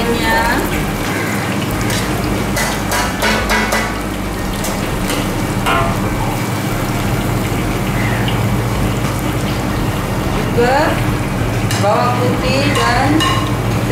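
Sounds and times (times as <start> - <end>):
aromatics sizzling in hot oil: 0.0 - 13.9
steady low hum: 0.0 - 13.9.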